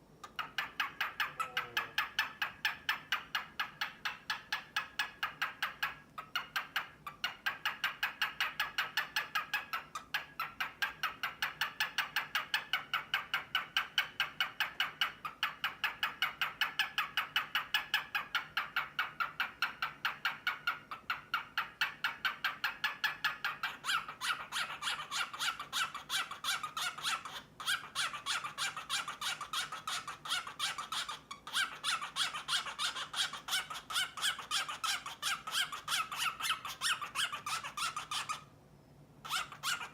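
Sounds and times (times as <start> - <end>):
cockatiel rapid calls: 0.2 - 38.5, 39.2 - 39.9.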